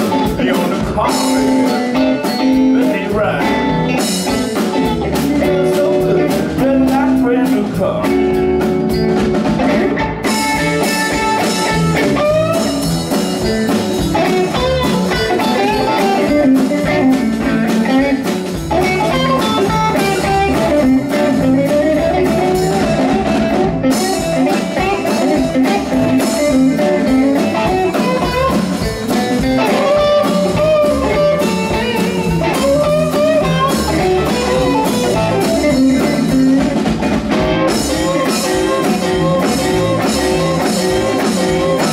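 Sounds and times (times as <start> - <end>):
drum kit: 0.0 - 41.9
electric bass: 0.0 - 41.9
electric guitar lead lines: 0.0 - 41.9.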